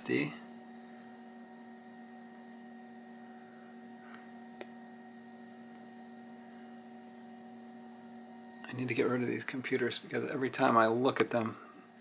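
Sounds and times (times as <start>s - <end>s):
computer electrical hum: 0.0s - 12.0s.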